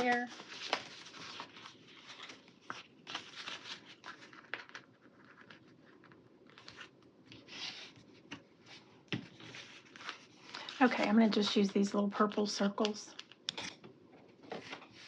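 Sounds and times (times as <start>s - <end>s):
paper rustling and crinkling: 0.0s - 13.8s, 14.4s - 15.0s.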